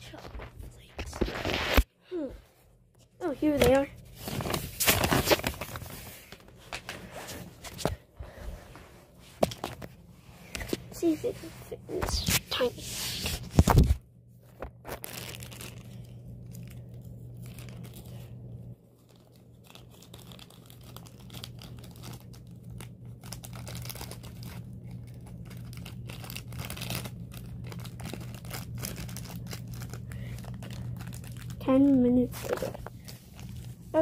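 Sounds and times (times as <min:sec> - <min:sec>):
rustling and crinkling: 0:00.0 - 0:34.0
steady low hum: 0:00.0 - 0:34.0.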